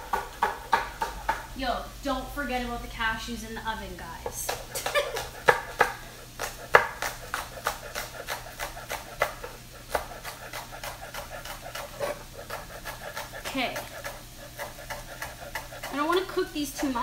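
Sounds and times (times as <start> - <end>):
knife chopping on wooden board: 0.0 - 1.5, 4.5 - 17.0.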